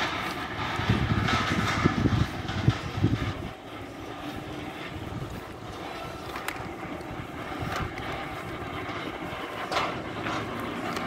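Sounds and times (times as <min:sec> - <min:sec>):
road traffic hum: 0:00.0 - 0:11.0
wind buffeting microphone: 0:00.0 - 0:11.0.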